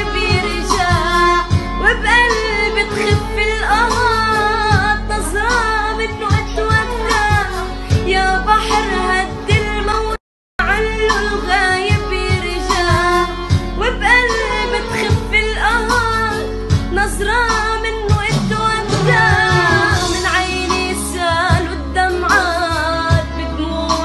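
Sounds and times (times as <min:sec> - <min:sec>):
instrumental backing track with beat: 0:00.0 - 0:24.0
woman singing: 0:00.0 - 0:24.0.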